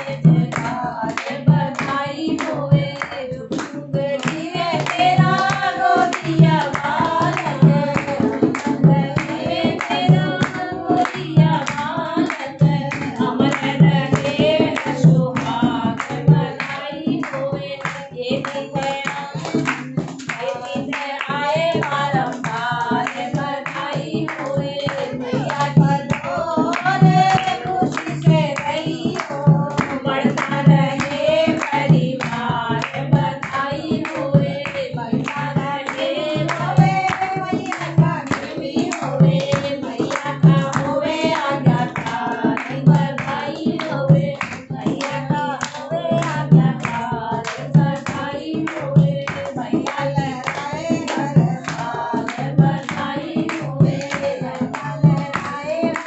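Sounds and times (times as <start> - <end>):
hand clapping: 0.0 - 56.0
women singing devotional song: 0.0 - 56.0.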